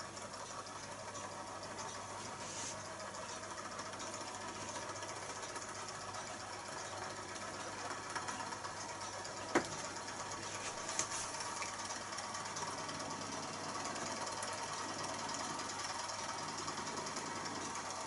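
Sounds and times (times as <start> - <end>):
model engine mechanical clatter: 0.0 - 18.0.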